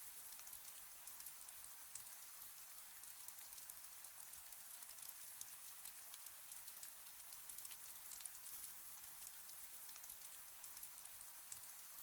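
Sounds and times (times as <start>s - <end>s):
gentle rain: 0.0s - 12.0s
raindrops ticking: 0.0s - 12.0s.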